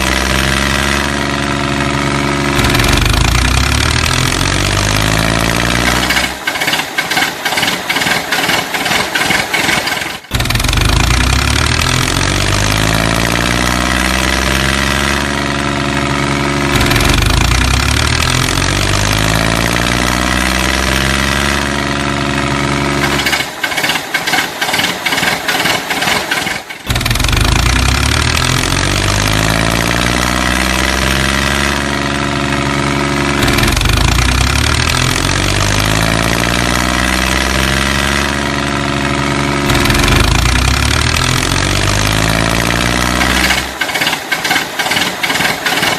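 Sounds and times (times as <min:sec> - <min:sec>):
diesel engine rapid clatter: 0:00.0 - 0:45.9
tractor engine running: 0:00.0 - 0:45.9.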